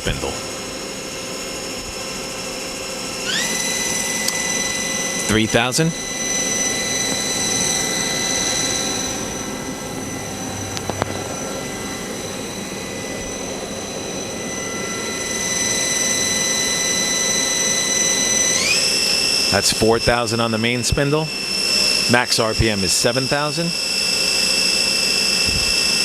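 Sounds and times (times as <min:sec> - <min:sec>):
lathe spindle whine: 0:00.0 - 0:26.0
mechanical hum: 0:00.0 - 0:26.0.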